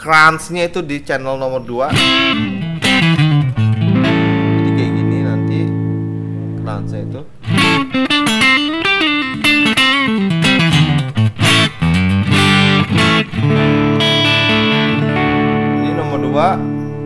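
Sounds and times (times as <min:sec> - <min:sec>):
guitar chord ringing: 0:01.9 - 0:17.0
overdriven electric guitar riff: 0:01.9 - 0:17.0.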